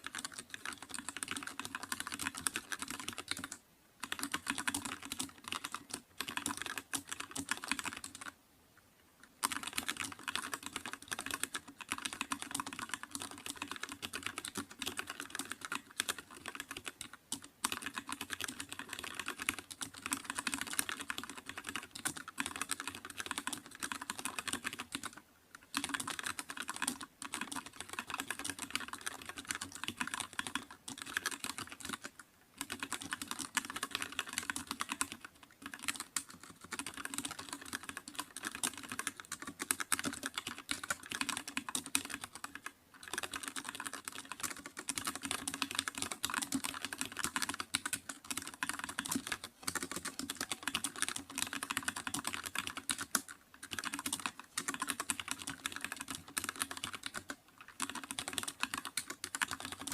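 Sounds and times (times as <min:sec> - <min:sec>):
fast typing on keyboard: 0:00.0 - 0:08.4, 0:09.4 - 0:59.9.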